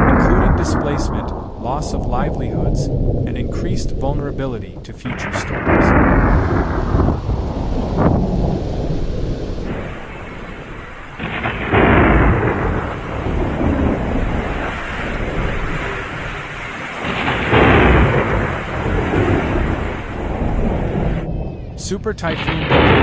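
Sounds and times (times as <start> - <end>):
heavy rain: 0.0 - 23.0
rolls of thunder: 0.0 - 23.0.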